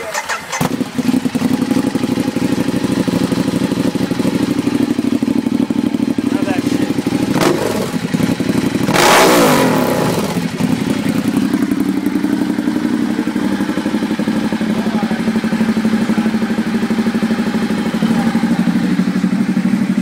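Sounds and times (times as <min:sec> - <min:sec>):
motorcycle revving and idling: 0:00.0 - 0:20.0.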